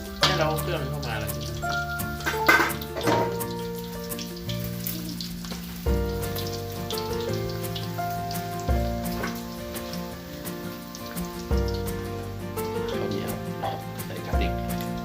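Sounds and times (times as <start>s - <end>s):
background music with chords: 0.0s - 15.0s
pork frying in hot oil: 0.0s - 15.0s.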